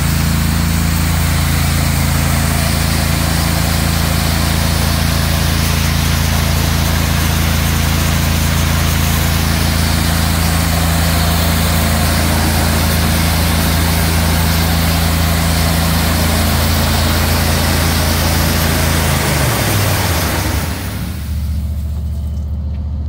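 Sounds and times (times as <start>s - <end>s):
water jet hissing from nozzle: 0.0s - 22.0s
pressure washer engine running: 0.0s - 22.7s.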